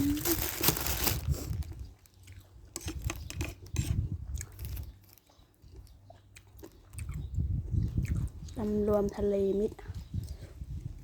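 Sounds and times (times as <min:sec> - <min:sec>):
soft chewing: 0:01.3 - 0:11.0.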